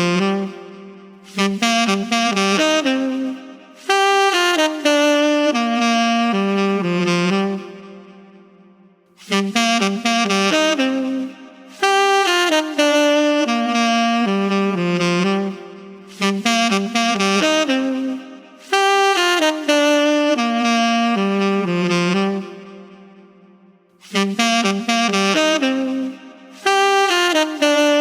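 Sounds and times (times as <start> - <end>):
saxophone melody: 0.0 - 28.0.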